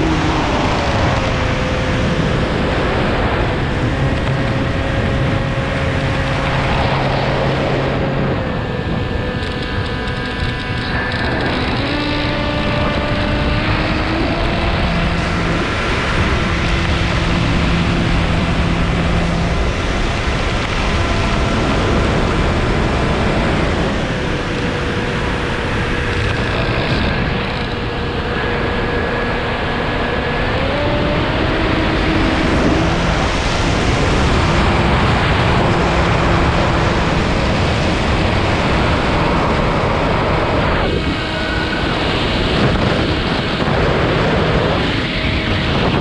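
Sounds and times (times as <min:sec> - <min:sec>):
model airplane motor droning: 0:00.0 - 0:46.0.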